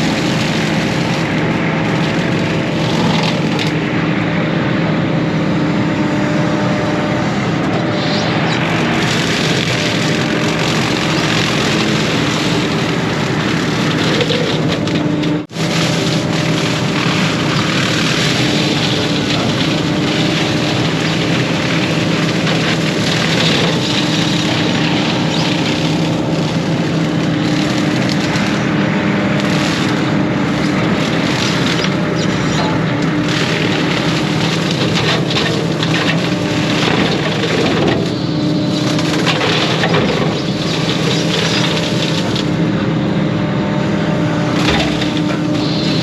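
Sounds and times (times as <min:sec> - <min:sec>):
excavator diesel engine running: 0:00.0 - 0:46.0
hydraulics and brush cutter working: 0:00.0 - 0:46.0.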